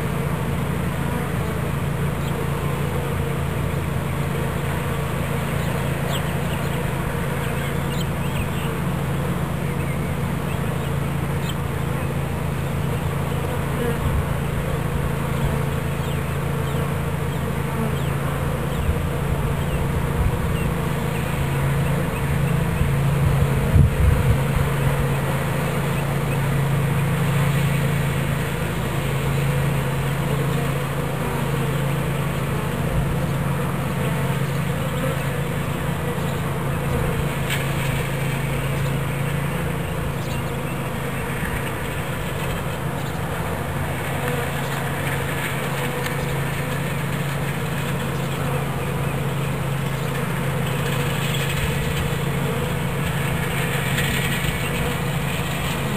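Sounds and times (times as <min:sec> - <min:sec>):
bees buzzing: 0:00.0 - 0:55.9.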